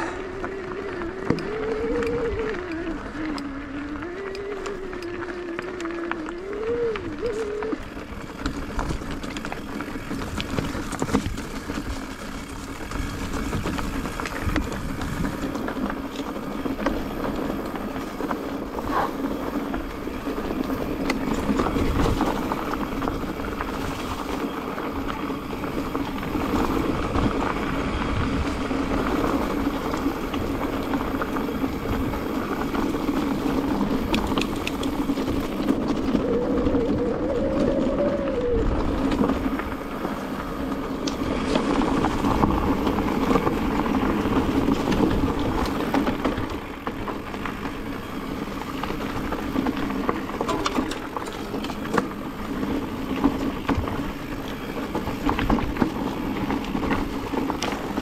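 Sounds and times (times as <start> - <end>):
bike rattling: 0.0 - 58.0
tyres crunching over stones: 0.0 - 58.0
wind on microphone: 0.0 - 58.0.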